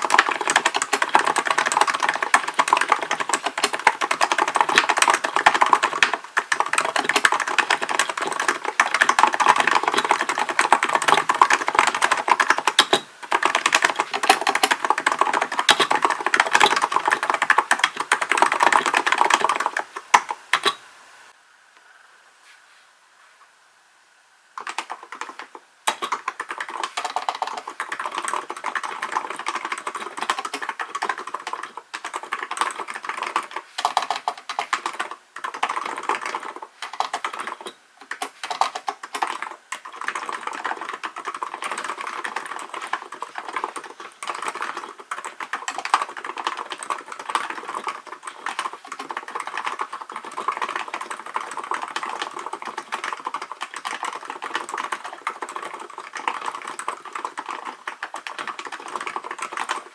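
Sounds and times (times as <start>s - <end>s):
keyboard key clicks: 0.0s - 20.8s, 24.6s - 59.9s.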